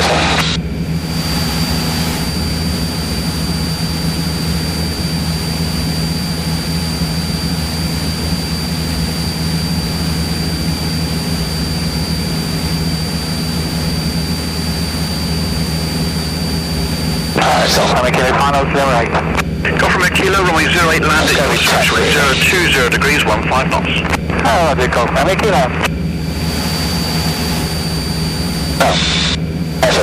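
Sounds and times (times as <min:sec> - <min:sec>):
propeller plane engine droning: 0:00.0 - 0:30.0
thin high whine: 0:00.0 - 0:30.0.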